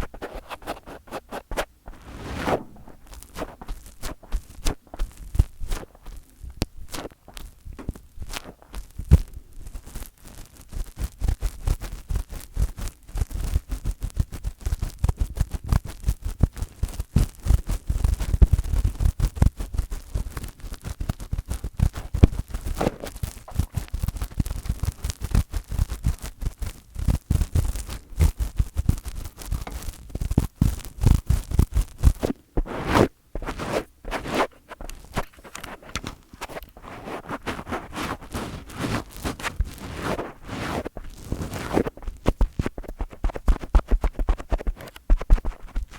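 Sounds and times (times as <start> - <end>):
fingers scratching a microphone: 0.0 - 45.9.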